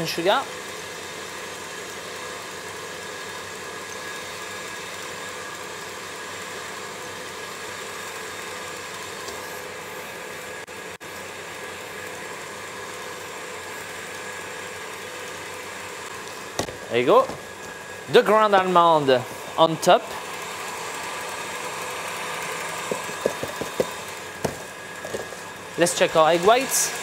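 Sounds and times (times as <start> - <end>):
stand mixer motor whirring: 0.0 - 18.1, 20.1 - 27.0.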